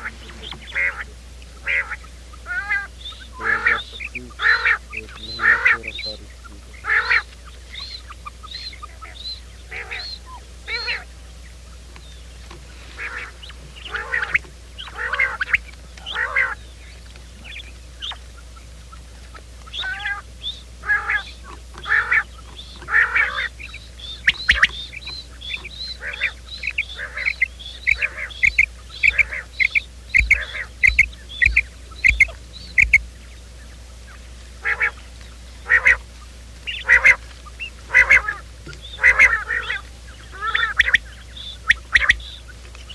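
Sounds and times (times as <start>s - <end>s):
quail calls: 0.0s - 42.9s.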